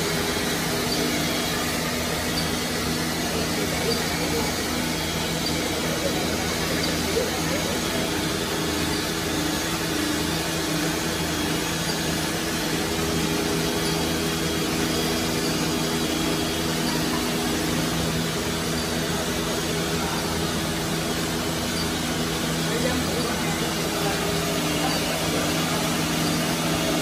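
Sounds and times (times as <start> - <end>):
router machine running: 0.0 - 27.0.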